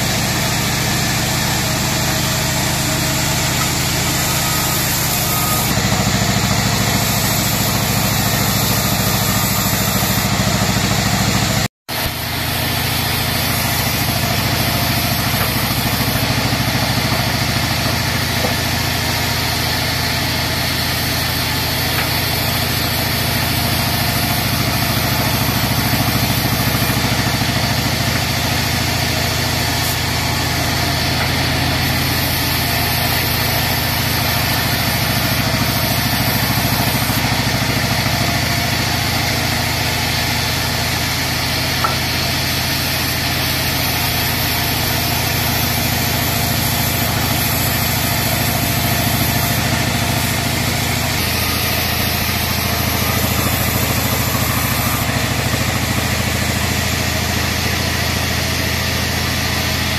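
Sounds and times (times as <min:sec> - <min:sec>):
bandsaw mill cutting log: 0:00.0 - 0:59.9.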